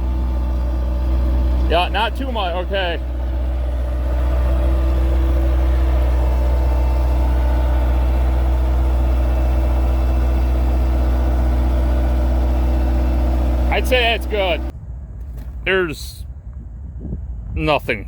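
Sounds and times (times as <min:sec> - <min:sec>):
skid steer engine humming: 0:00.0 - 0:14.7.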